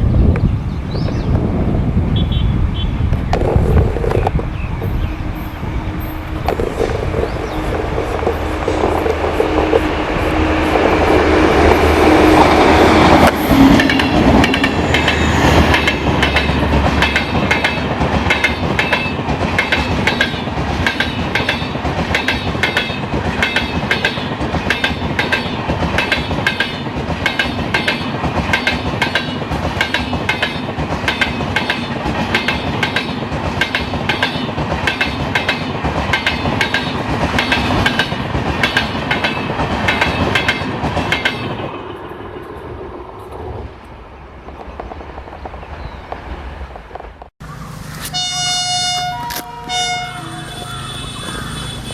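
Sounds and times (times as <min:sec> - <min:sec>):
train passing hum: 0:00.0 - 0:51.9
wheels clickety-clack over rail joints: 0:03.0 - 0:05.5, 0:06.4 - 0:47.3.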